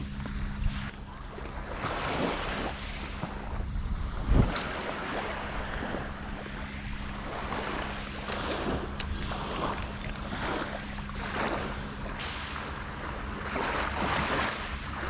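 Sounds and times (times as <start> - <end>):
small waves lapping on beach: 0.0 - 15.0
wind on microphone: 0.0 - 15.0.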